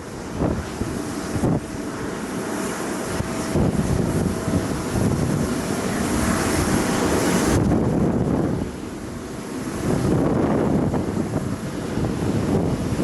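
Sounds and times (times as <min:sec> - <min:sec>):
jet engines rushing: 0:00.0 - 0:13.0
wind buffeting microphone: 0:00.0 - 0:13.0.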